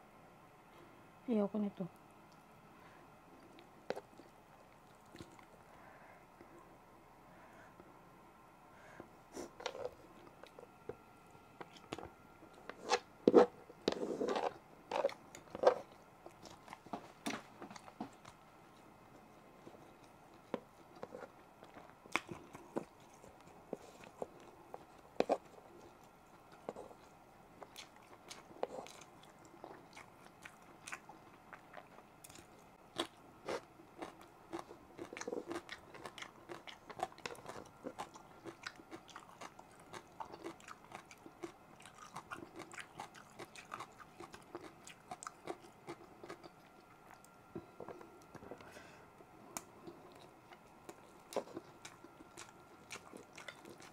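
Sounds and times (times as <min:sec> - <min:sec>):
person chewing food: 0:03.4 - 0:05.8, 0:09.4 - 0:11.0, 0:11.6 - 0:53.9.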